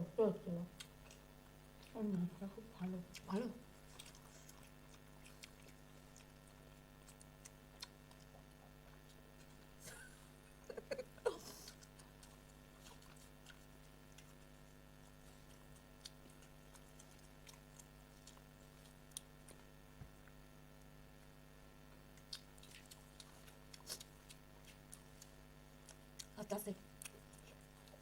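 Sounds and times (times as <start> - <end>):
low steady hum: 0.0 - 28.0
mouth clicks and smacks chewing: 0.8 - 2.0, 2.8 - 10.0, 11.5 - 20.4, 21.9 - 28.0.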